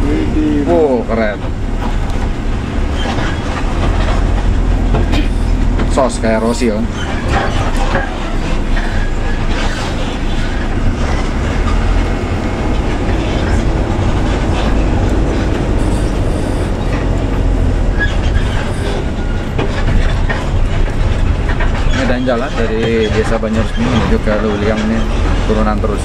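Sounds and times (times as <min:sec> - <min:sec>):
bus body rattling and knocking: 0:00.0 - 0:26.0
bus engine rumbling: 0:00.0 - 0:26.0.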